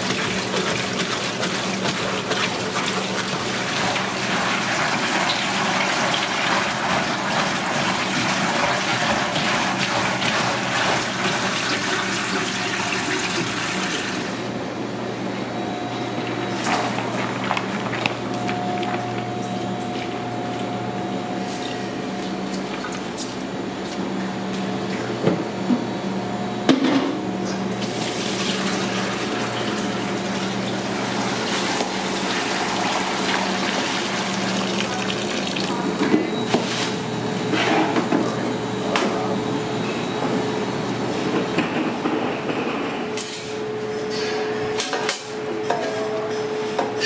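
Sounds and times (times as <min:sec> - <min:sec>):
kitchen machinery hum: 0:00.0 - 0:47.0.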